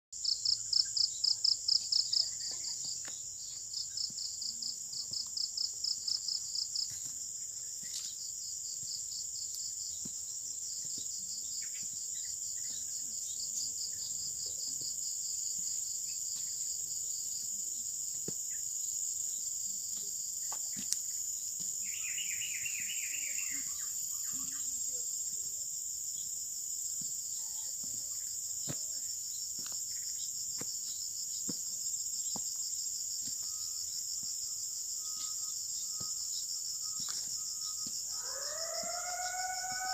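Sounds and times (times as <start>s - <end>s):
insect high-pitched trill: 0.2s - 39.9s
insect rapid pulsing chirp: 0.2s - 39.9s
lower insect chirps: 0.2s - 39.9s.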